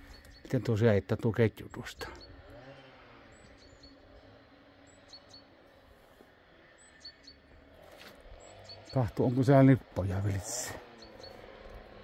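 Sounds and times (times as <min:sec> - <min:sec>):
small bird chirping: 0:00.0 - 0:01.0, 0:01.6 - 0:11.8.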